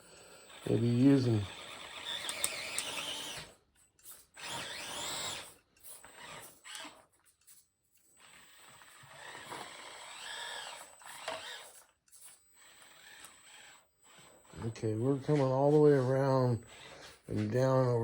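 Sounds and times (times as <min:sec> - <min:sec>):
electric motor whining: 0:00.4 - 0:03.6, 0:04.4 - 0:07.0, 0:08.2 - 0:17.3.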